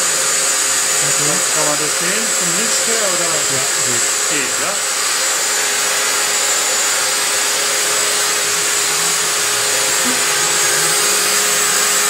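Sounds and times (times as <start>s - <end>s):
milling machines whirring: 0.0s - 12.0s.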